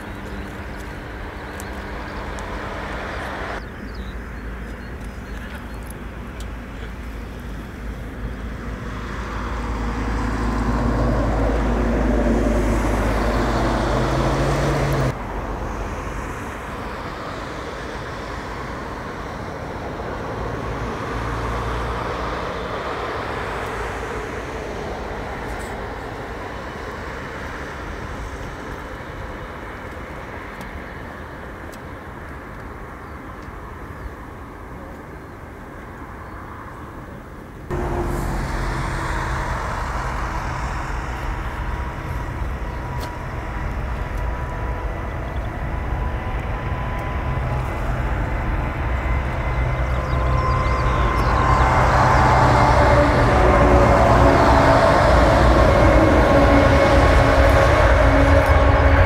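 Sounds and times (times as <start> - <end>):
jet engine rumble and whine: 0.0 - 14.0, 15.0 - 21.1, 22.4 - 59.0.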